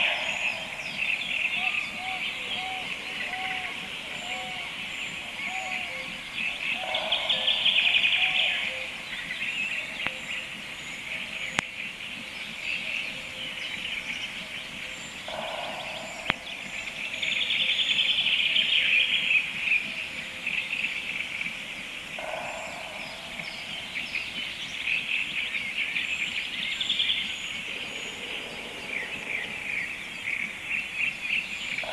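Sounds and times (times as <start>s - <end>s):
songbirds singing: 0.0s - 31.9s.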